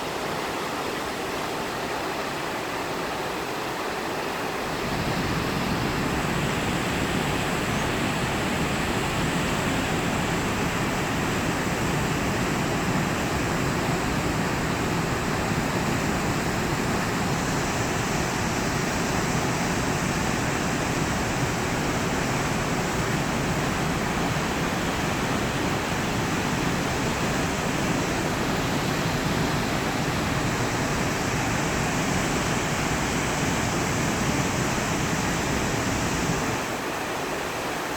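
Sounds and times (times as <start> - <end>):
waterfall roaring: 0.0 - 37.9.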